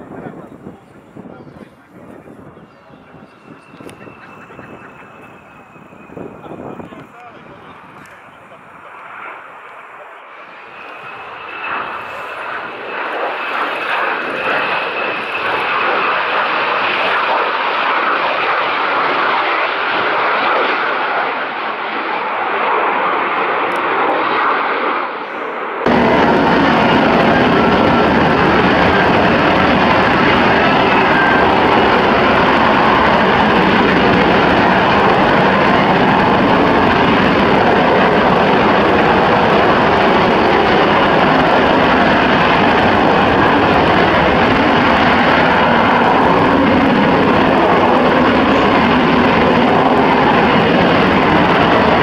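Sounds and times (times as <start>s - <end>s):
jet aircraft noise: 0.0s - 52.0s.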